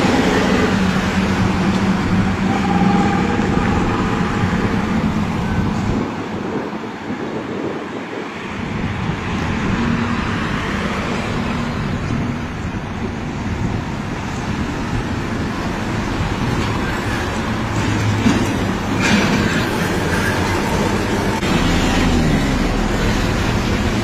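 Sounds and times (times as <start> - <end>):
heavy trucks passing: 0.0 - 24.0
tyre and traffic noise: 0.0 - 24.0.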